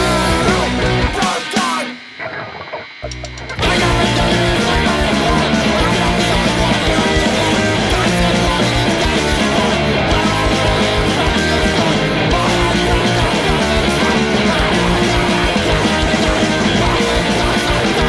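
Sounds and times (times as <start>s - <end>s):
steady drumbeat: 0.0s - 2.0s, 3.0s - 18.0s
electric guitar: 0.0s - 18.0s
punk rock band playing: 0.0s - 18.0s.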